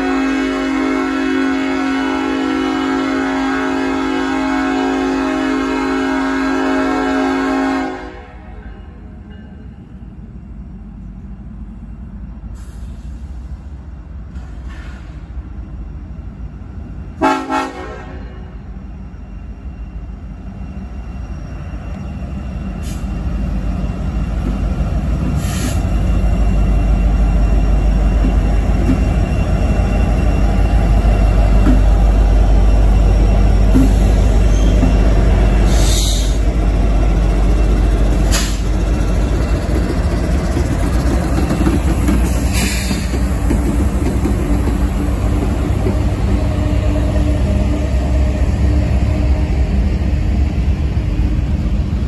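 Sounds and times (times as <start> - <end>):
diesel locomotive engine rumble: 0.0 - 52.0.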